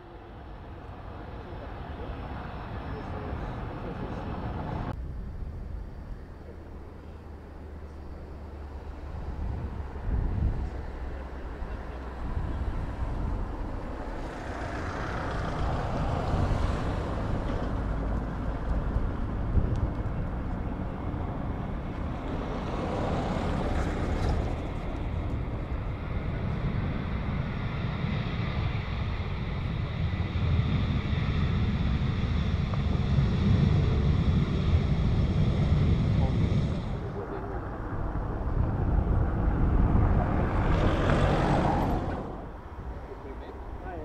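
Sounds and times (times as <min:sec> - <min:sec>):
jet engines rushing and whining: 0:00.0 - 0:05.0, 0:05.7 - 0:44.0
wind buffeting microphone: 0:08.5 - 0:43.8.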